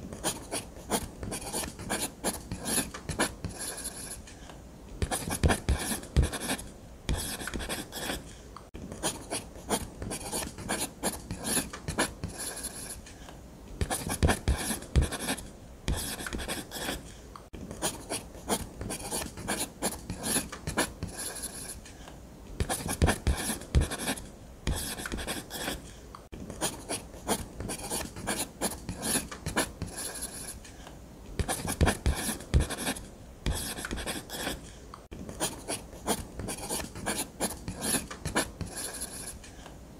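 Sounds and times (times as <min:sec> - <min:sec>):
pen scratching on paper: 0:00.1 - 0:04.3, 0:05.0 - 0:08.3, 0:09.0 - 0:13.1, 0:13.8 - 0:17.1, 0:17.7 - 0:21.8, 0:22.6 - 0:25.9, 0:26.5 - 0:30.6, 0:31.4 - 0:39.4.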